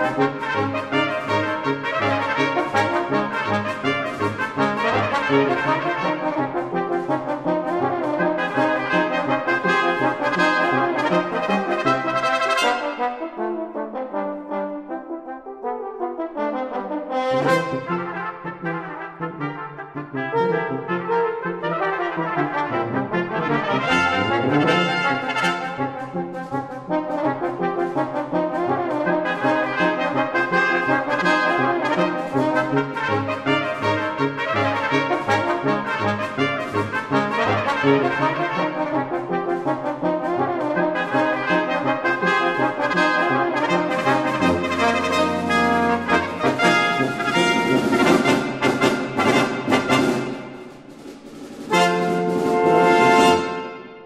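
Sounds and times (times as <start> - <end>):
brass instrumental music: 0.0 - 54.0.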